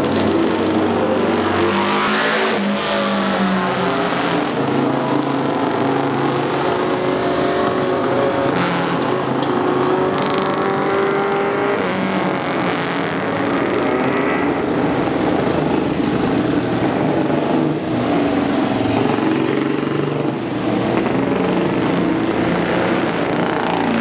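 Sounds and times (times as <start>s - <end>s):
motorcycle engines revving past: 0.1s - 24.0s.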